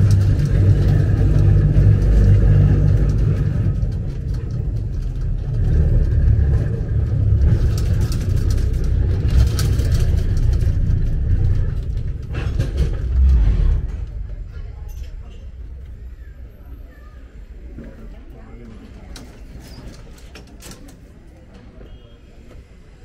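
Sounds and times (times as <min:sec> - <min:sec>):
rail car low rumble: 0:00.0 - 0:23.0.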